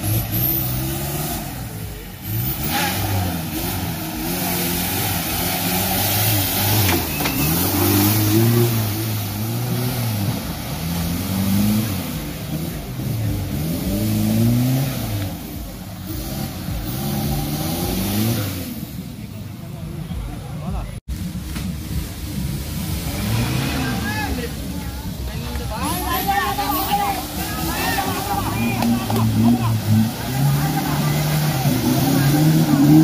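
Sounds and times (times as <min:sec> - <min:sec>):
engine revving hard: 0:00.0 - 0:18.9, 0:22.9 - 0:24.4, 0:26.9 - 0:33.0.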